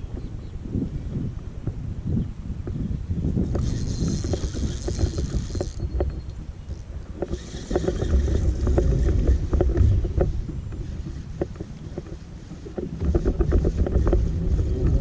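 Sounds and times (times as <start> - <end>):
wind gusting on microphone: 0.0 - 15.0
boat engine rumble: 1.3 - 15.0.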